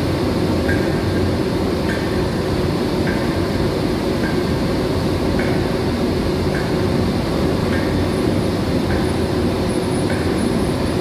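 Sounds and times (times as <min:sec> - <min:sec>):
electric pumps droning: 0:00.0 - 0:11.0.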